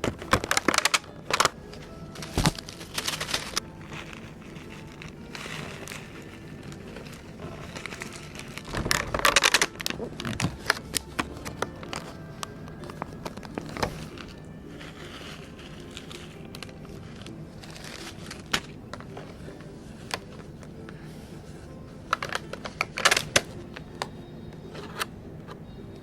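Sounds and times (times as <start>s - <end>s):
faint background music: 0.0s - 26.0s.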